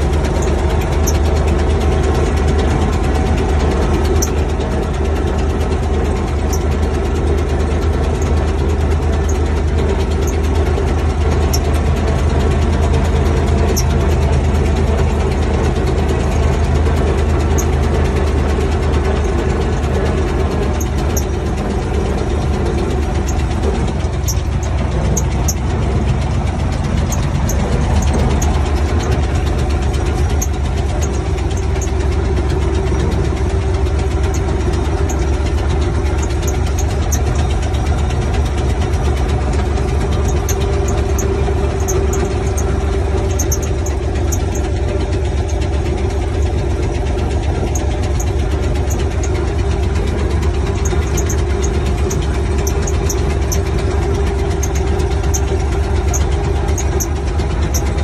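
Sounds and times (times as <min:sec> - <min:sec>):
faint high ticking rattles: 0:00.0 - 0:58.0
tractor diesel engine running: 0:00.0 - 0:58.0.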